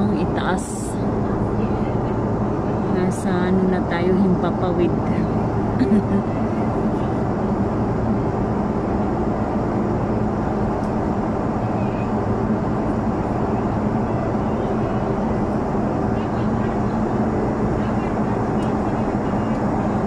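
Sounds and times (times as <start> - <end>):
airliner cabin airflow and engines: 0.0 - 20.0
low hum: 0.0 - 20.0.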